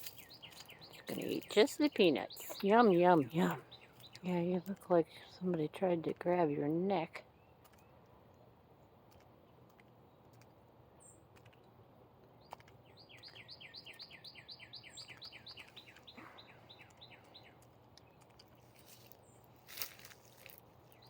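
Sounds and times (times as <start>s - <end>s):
songbird trill: 0.0s - 8.6s, 12.4s - 21.0s.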